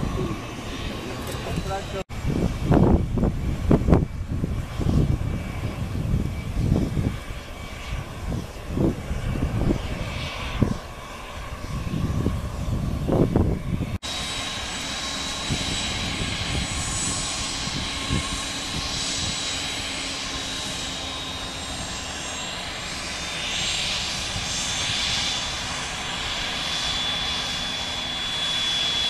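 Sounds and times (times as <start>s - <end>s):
jet engines whining while taxiing: 0.0s - 29.0s.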